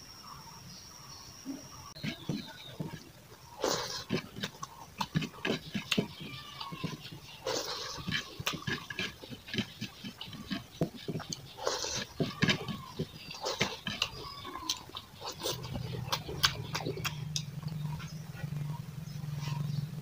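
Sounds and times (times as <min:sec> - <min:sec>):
steady low hum: 0:00.0 - 0:20.0
slurps: 0:02.0 - 0:18.5
wet chewing and mouth-smacking: 0:02.0 - 0:19.8.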